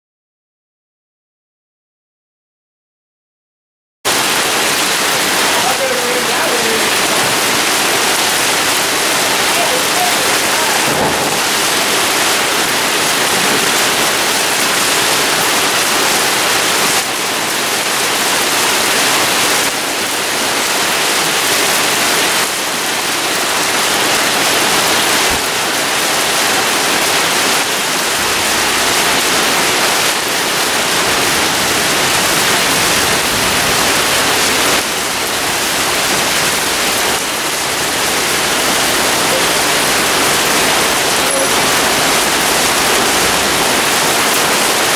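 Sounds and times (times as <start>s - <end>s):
hail and heavy rain pelting ground: 4.1s - 44.9s.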